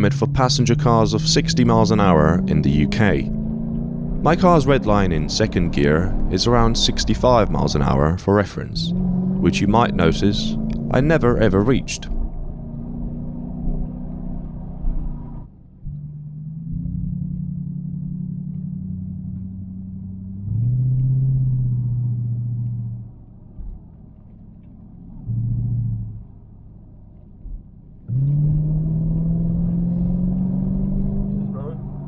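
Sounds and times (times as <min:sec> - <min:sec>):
car engine climbing uphill: 0:00.0 - 0:32.0.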